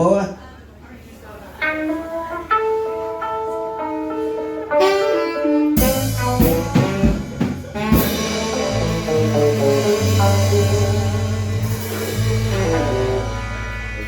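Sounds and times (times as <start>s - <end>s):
band playing: 1.6s - 14.0s
drum kit: 2.0s - 14.0s.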